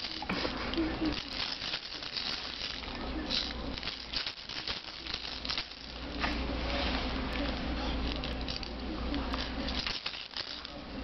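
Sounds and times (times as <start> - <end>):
baby rattle shaking: 0.0 - 6.2, 7.5 - 10.8.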